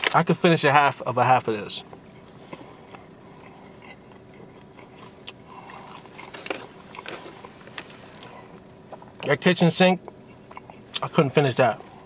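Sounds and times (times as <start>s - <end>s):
chewing crusty bread roll: 1.8s - 12.0s.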